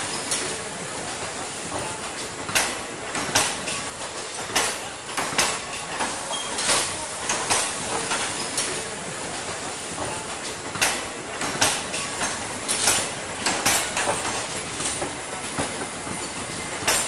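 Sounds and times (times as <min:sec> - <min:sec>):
train wheels clattering over rail joints: 0:01.6 - 0:17.0.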